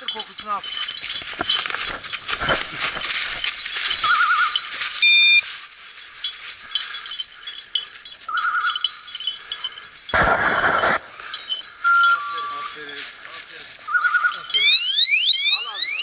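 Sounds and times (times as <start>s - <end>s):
footsteps on dry leaves: 0.0s - 14.7s
dog bell jingling: 0.0s - 14.8s.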